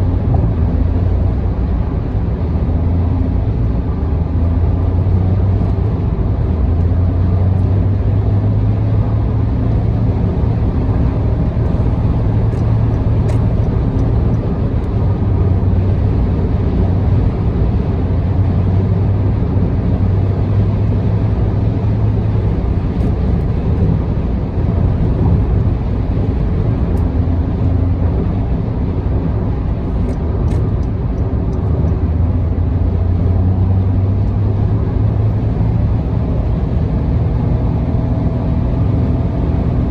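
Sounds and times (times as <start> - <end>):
car engine and tyre road noise: 0.0 - 39.9.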